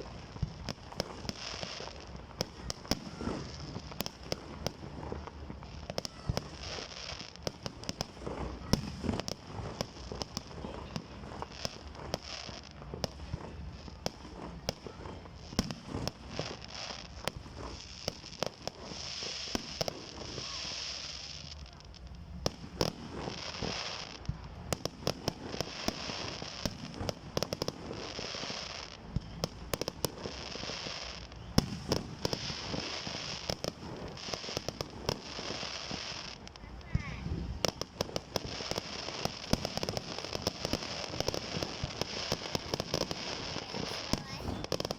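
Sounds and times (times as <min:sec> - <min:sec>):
fireworks bangs: 0:00.0 - 0:44.9
fireworks crackling hiss: 0:00.0 - 0:44.9.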